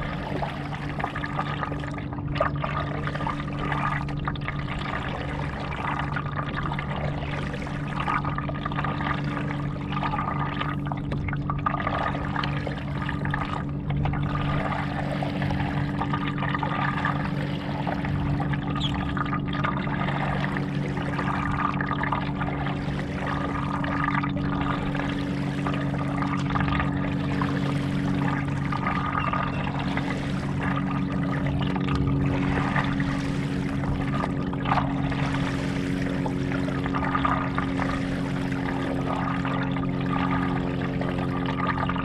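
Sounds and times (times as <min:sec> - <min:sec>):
steady low hum: 0:00.0 - 0:42.0
water splashing around paddleboard: 0:00.0 - 0:42.0.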